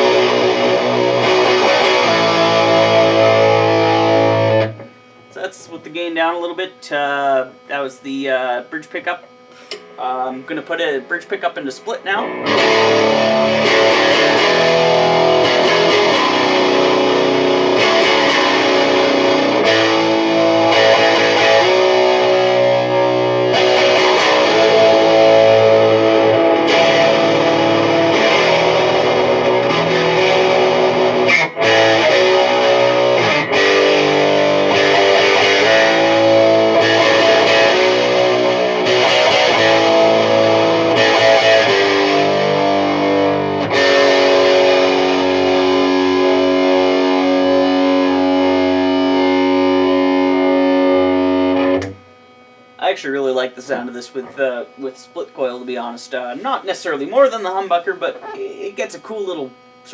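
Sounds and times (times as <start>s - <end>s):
distorted electric guitar riffing: 0.0s - 59.9s.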